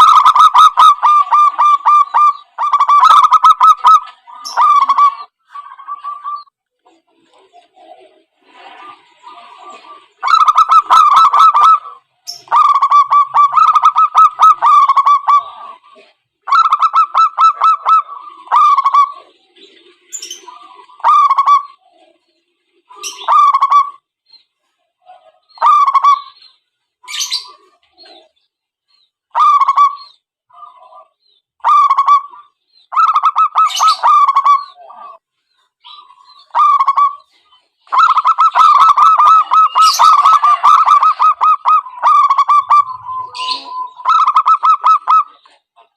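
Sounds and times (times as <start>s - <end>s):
doves cooing: 0.0s - 24.1s, 25.0s - 28.4s, 29.3s - 35.2s, 35.8s - 45.9s.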